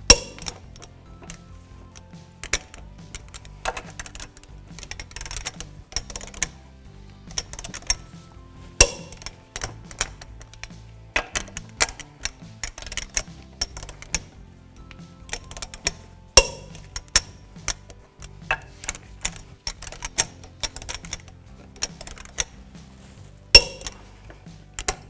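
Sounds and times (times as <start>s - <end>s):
torque wrench ratchet clicks: 0.0s - 23.0s, 23.6s - 25.0s
sharp metallic clinks: 0.0s - 25.0s
socket clinking onto nuts: 0.0s - 25.0s
soft background music: 0.0s - 25.0s.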